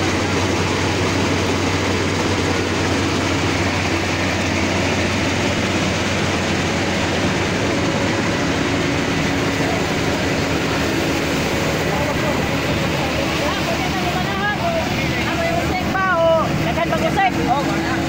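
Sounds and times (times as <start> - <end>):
combine harvester running: 0.0 - 18.0.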